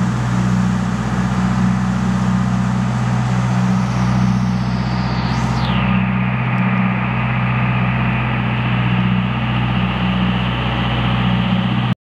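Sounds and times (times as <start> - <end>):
boat engines droning: 0.0 - 12.0.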